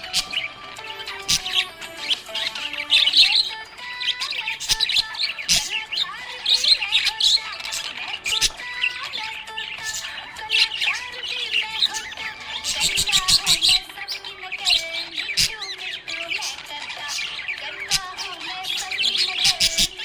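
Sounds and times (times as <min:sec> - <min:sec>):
parrots chirping and chattering: 0:00.0 - 0:20.0.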